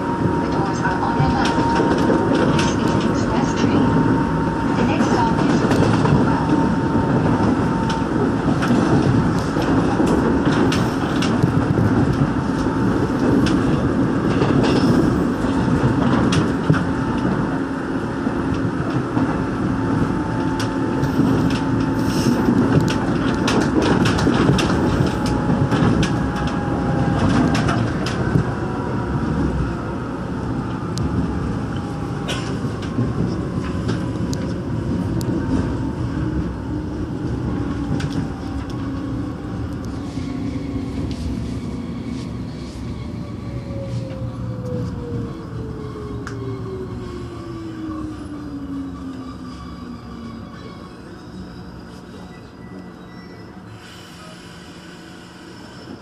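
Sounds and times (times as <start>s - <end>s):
train wheel-on-rail rumble: 0.0s - 56.0s.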